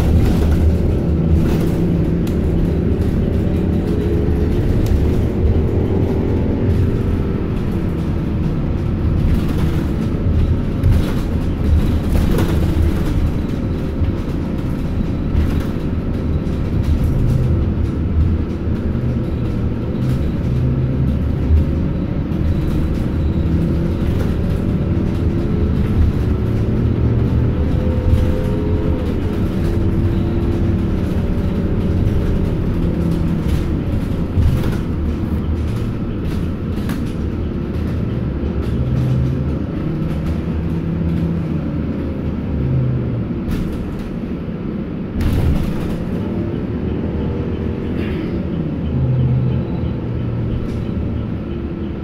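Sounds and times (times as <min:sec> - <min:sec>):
bus body knocks and rattles: 0:00.0 - 0:52.0
bus engine and cabin rumble: 0:00.0 - 0:52.0.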